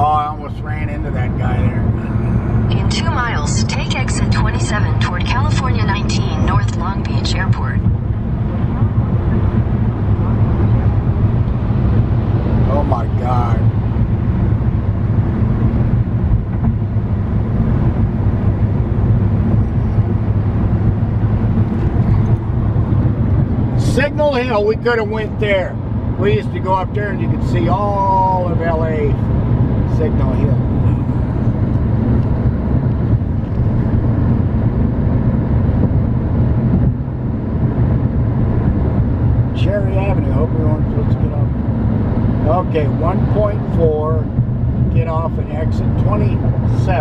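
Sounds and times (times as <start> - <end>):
car interior road noise: 0.0 - 47.0.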